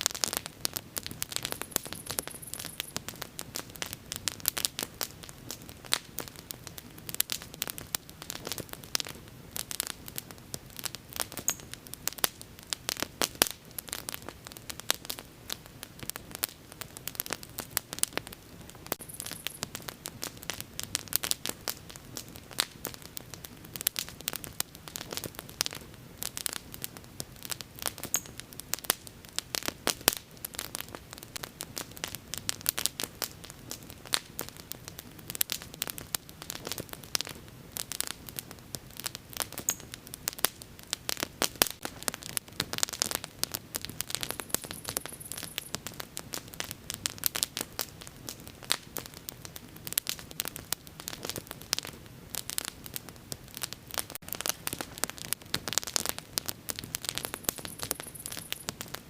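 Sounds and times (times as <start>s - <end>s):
bonfire crackling: 0.0s - 59.0s.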